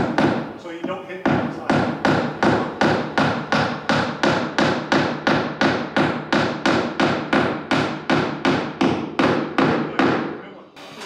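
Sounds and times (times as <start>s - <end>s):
hammer striking wood: 0.0s - 10.4s.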